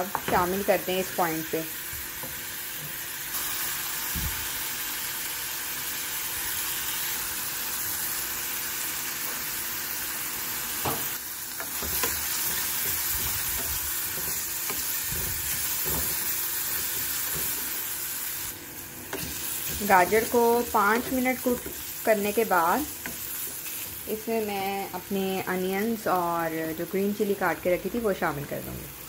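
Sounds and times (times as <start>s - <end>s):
carrots sizzling in a frying pan: 0.0s - 29.0s.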